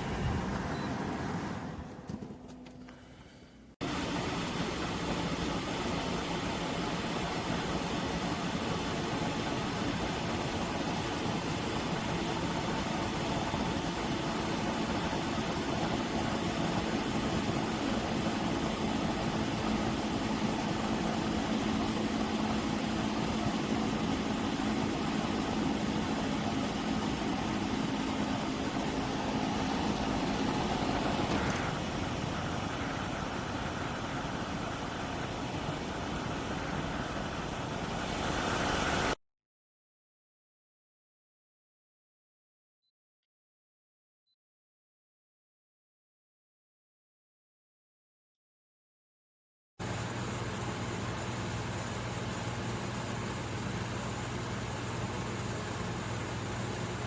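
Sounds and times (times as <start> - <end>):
air conditioner fan rush: 0.0 - 39.2, 49.8 - 57.0
machine hum: 0.0 - 39.2, 49.8 - 57.0.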